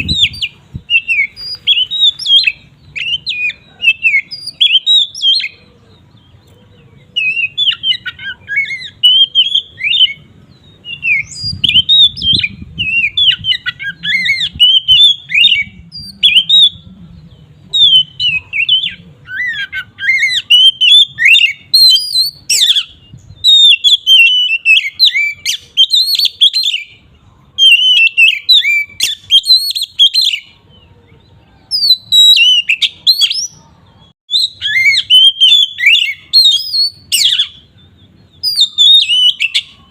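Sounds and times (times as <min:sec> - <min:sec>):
songbird singing whistles and chatters: 0:00.0 - 0:39.9.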